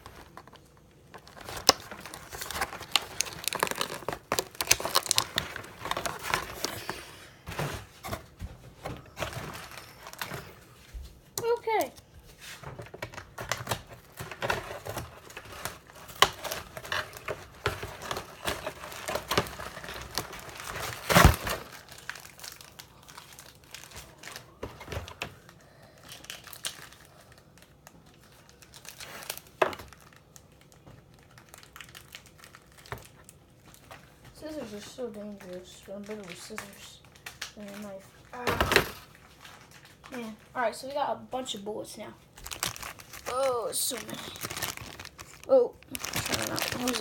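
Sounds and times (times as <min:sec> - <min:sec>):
plastic packaging crinkling: 0:00.0 - 0:10.8, 0:12.6 - 0:40.5, 0:42.3 - 0:47.0.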